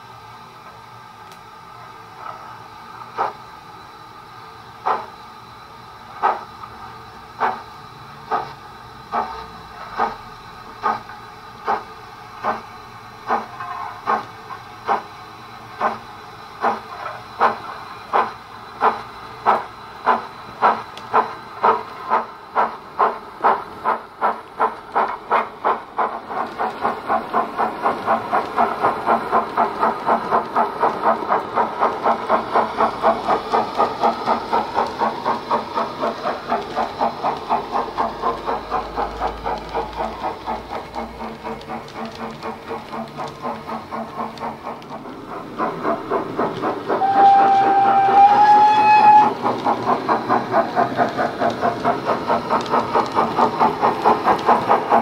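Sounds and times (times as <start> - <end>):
steam locomotive chuffs: 0.0 - 55.0.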